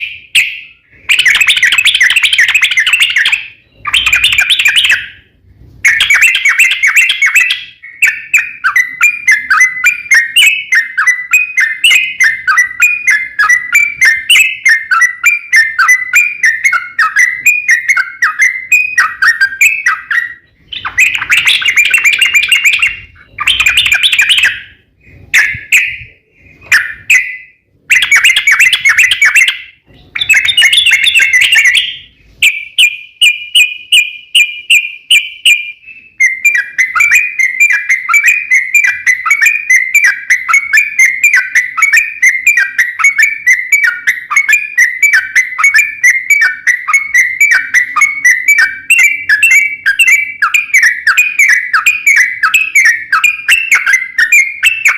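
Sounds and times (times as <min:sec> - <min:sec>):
bird singing chattering phrases: 0:00.0 - 0:05.2, 0:05.8 - 0:54.9.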